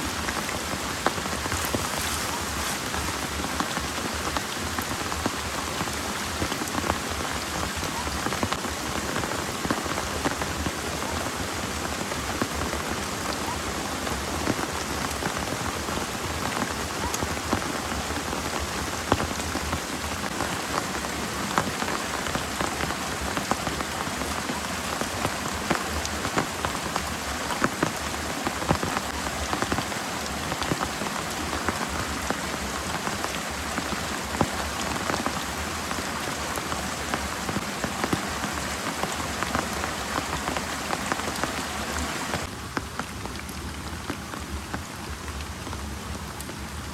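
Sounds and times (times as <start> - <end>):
heavy rain pouring: 0.0 - 46.9
raindrops ticking on surface: 0.0 - 46.9.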